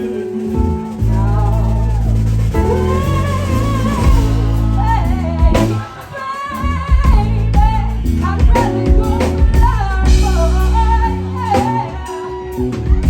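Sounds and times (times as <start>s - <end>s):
live band playing soul ballad: 0.0s - 13.0s
woman singing: 0.0s - 13.0s.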